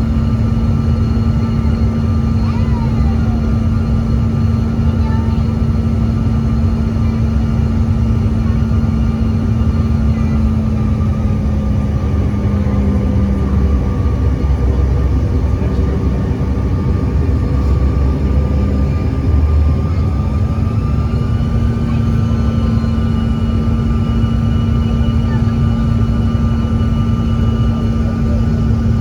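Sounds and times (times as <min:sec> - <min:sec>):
airliner engines rumbling in cabin: 0:00.0 - 0:29.0.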